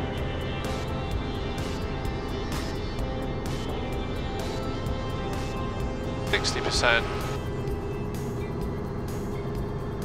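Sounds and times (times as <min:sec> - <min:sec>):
helicopter engine and rotors: 0:00.0 - 0:10.0.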